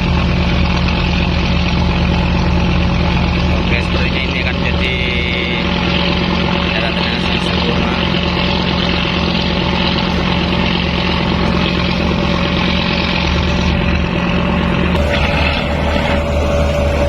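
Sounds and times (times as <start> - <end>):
higher steady engine tone: 0.0 - 17.0
ship engine droning hum: 0.0 - 17.0.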